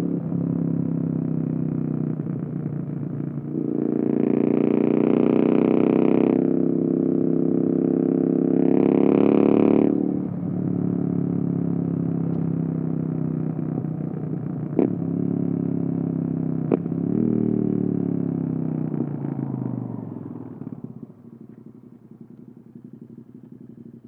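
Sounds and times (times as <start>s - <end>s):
motorcycle exhaust while riding: 0.0s - 24.0s.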